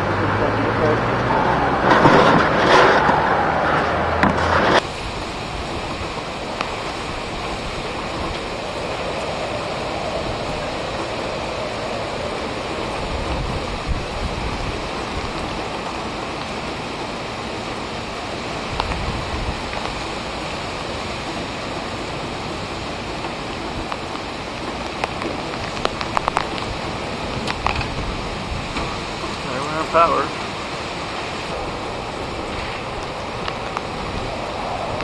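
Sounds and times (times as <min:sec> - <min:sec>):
driving rain: 0:00.0 - 0:35.0
strong wind blowing: 0:00.0 - 0:35.0.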